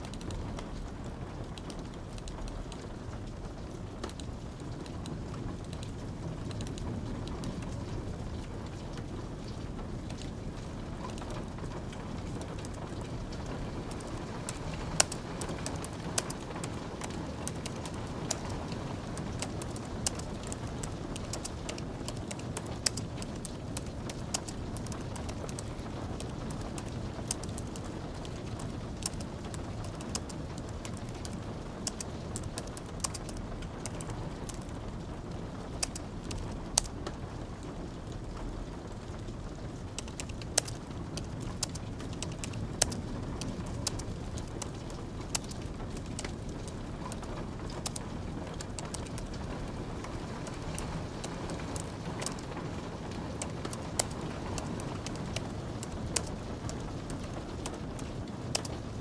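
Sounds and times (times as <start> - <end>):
crackling fire: 0.0 - 59.0
light rain: 0.0 - 59.0.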